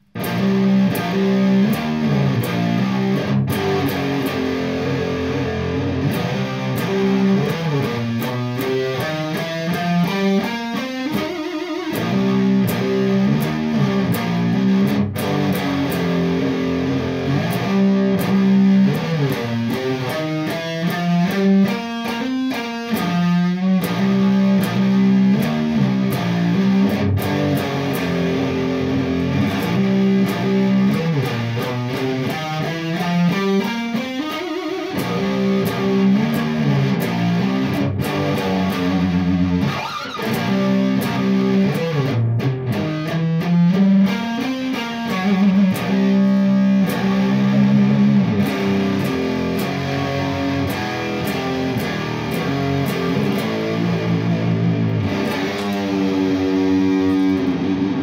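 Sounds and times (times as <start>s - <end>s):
distorted electric guitar riff: 0.0s - 58.0s.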